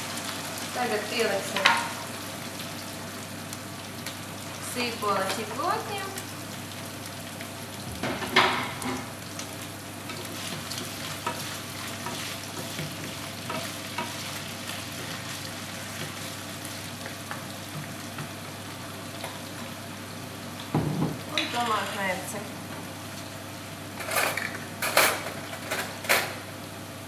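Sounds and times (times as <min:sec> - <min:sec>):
meat sizzling in a pan: 0:00.0 - 0:22.3.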